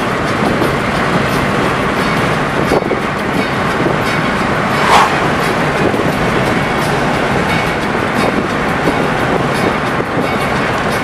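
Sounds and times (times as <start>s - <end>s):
car engine cruising: 0.0s - 10.9s
tyres rolling on asphalt: 0.0s - 11.0s.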